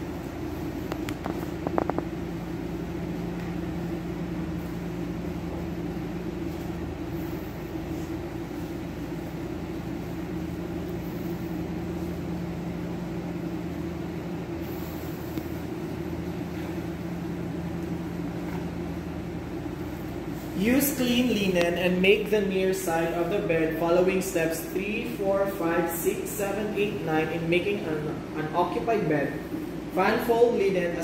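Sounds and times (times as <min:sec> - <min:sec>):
low machine hum: 0:00.0 - 0:31.0.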